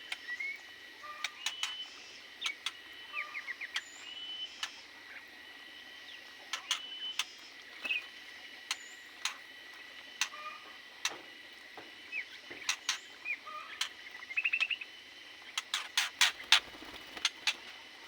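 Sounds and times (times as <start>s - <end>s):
small birds chirping: 0.0s - 9.4s, 12.0s - 18.0s.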